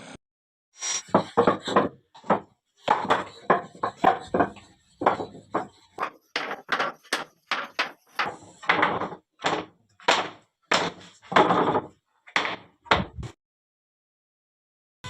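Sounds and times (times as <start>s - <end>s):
sharp knocks and thuds: 1.2s - 13.4s.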